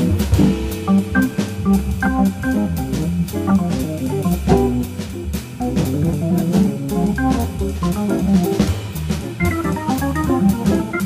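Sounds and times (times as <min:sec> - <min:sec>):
drum kit with cymbal strokes: 0:00.0 - 0:11.0
low bass line: 0:00.0 - 0:11.0
organ soloing in quick runs: 0:00.0 - 0:11.0.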